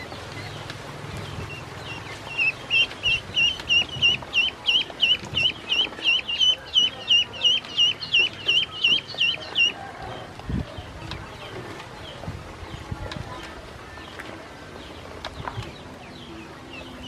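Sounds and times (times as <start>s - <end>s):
duckling peeping: 0.0s - 14.2s.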